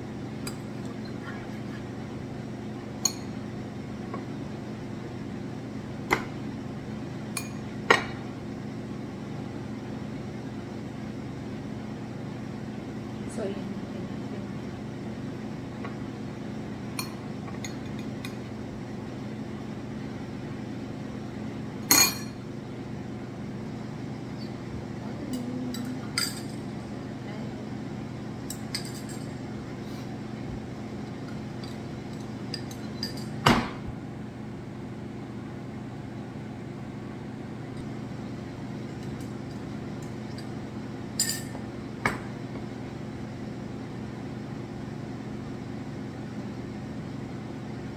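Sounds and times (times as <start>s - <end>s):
low background hum: 0.0s - 47.9s.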